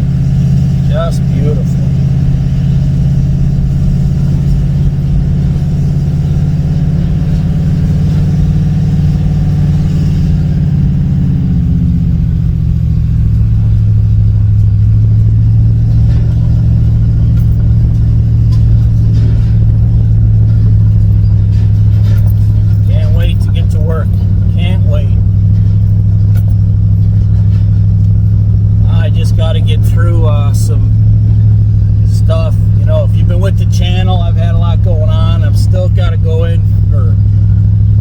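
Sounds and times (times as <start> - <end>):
pickup truck engine droning: 0.0 - 38.0.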